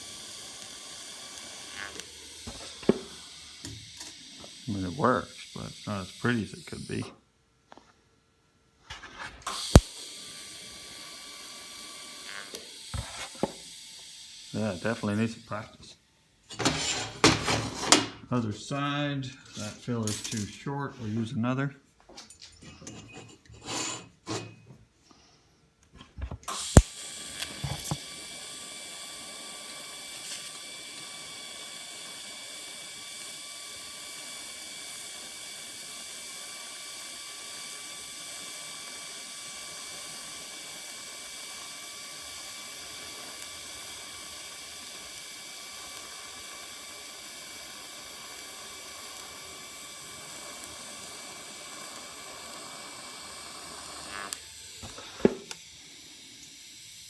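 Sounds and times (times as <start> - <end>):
welding arc hissing: 0.0 - 7.2, 8.9 - 18.9, 26.5 - 57.0.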